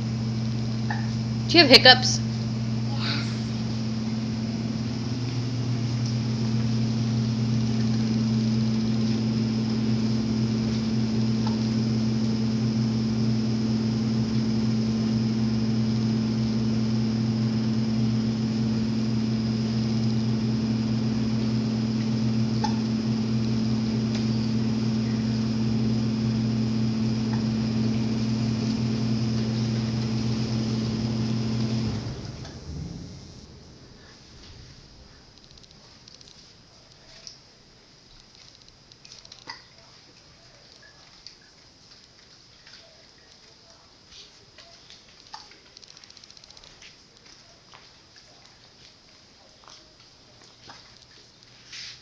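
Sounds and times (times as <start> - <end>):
low machine hum with whine: 0.0 - 51.7.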